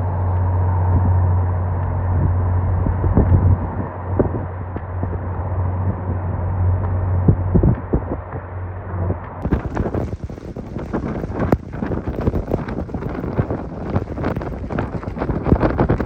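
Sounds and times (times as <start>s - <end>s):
car driving low rumble: 0.0s - 16.0s.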